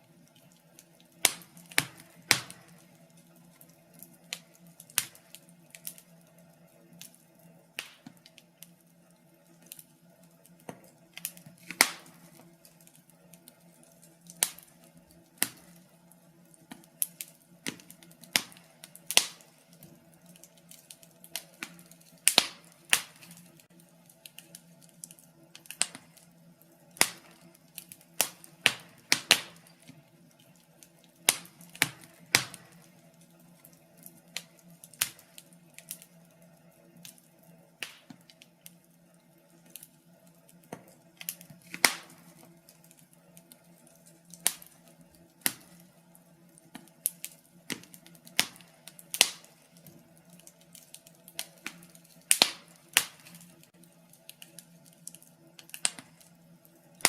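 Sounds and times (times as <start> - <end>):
faint steady low hum: 0.0 - 57.0
wood fire crackling: 0.0 - 57.0.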